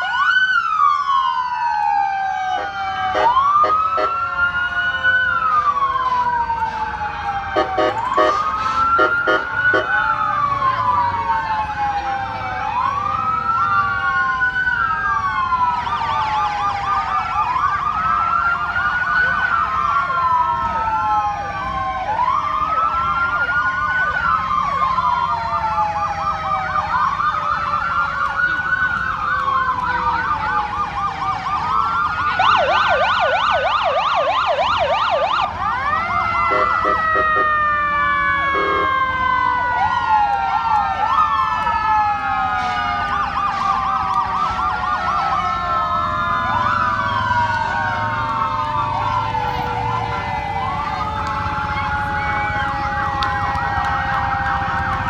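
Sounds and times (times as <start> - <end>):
police sirens wailing: 0.0 - 55.0
rapid warble siren: 0.0 - 55.0
yelping siren: 0.0 - 55.0.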